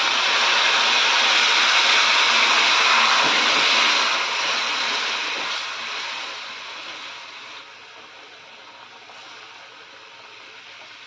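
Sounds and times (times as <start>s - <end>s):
water hissing in hot pan: 0.0s - 11.0s.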